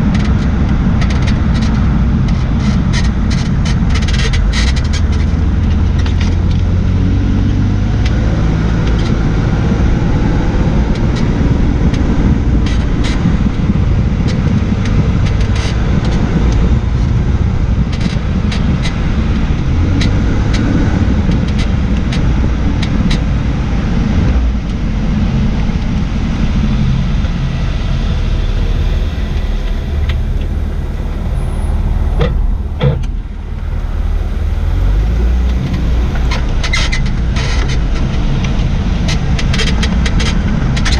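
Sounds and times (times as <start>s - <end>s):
road and wind noise: 0.0s - 40.9s
suspension creaks and clicks: 0.0s - 40.9s.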